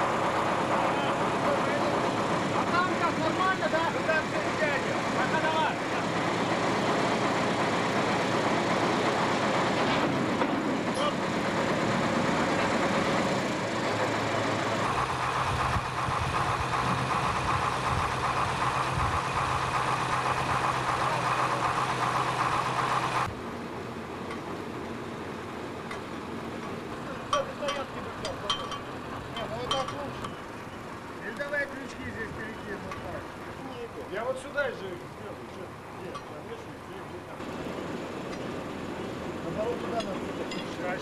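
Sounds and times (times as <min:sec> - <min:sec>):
crane engine running: 0:00.0 - 0:41.0.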